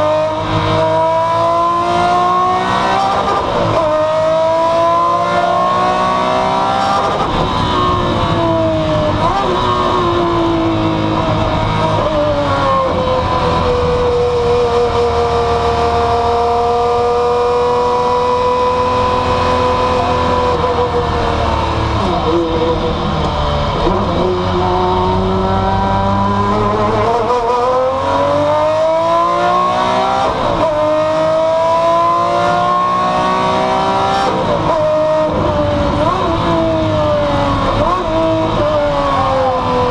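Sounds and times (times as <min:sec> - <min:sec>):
racing car engine revving: 0:00.0 - 0:39.9.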